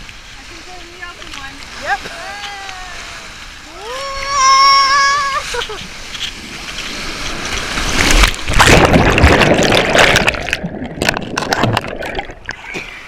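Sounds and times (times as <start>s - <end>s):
water splashes: 0.0s - 13.0s
water rushing down a slide: 1.3s - 13.0s.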